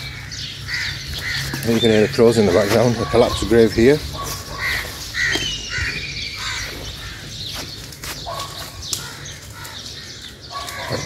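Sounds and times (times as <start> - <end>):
crows cawing: 0.0 - 11.0
open air hum: 0.0 - 11.0.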